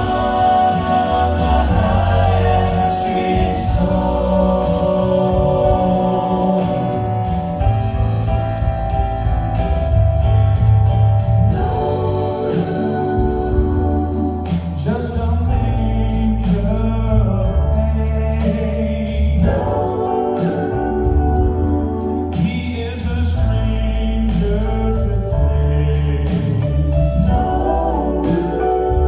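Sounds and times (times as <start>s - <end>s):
voices singing in harmony: 0.0s - 8.2s, 11.5s - 25.1s, 25.8s - 29.0s
instrumental backing: 0.0s - 29.0s
steady bass line: 0.0s - 29.0s.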